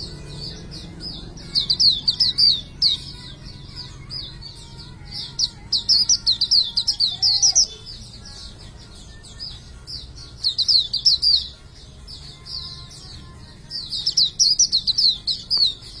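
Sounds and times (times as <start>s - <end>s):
bird singing high fast chirps: 0.0s - 16.0s.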